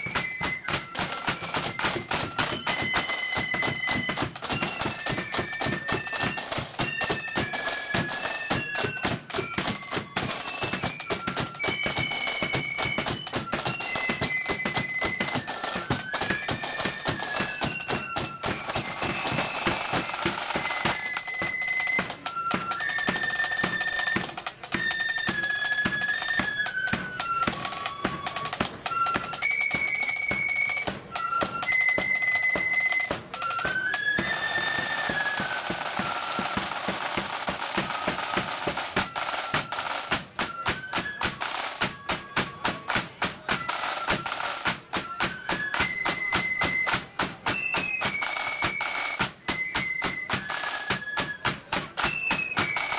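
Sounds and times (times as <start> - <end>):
flutes playing a march melody: 0.0 - 52.9
snare drums: 0.0 - 52.9.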